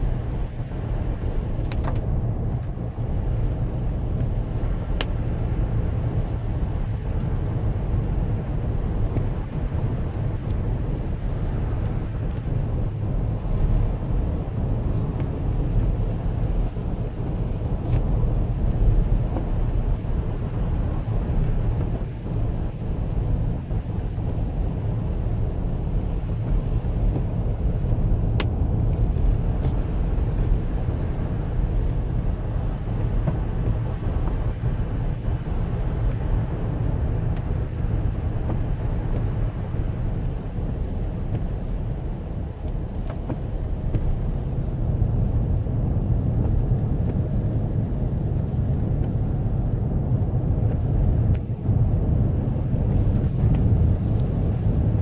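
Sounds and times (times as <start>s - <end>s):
car engine rumble in cabin: 0.0s - 55.0s.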